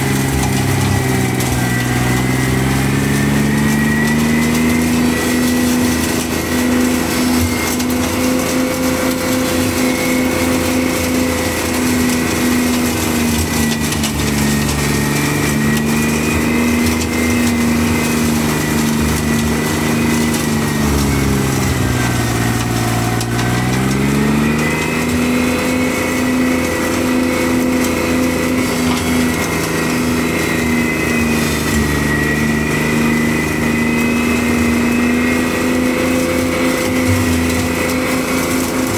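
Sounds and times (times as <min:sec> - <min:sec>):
flail mower whine: 0:00.0 - 0:38.9
tractor engine drone: 0:00.0 - 0:38.9.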